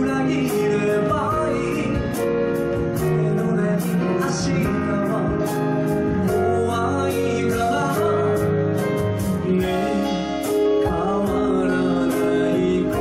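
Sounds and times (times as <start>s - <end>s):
live band playing: 0.0s - 13.0s
man singing: 0.0s - 13.0s.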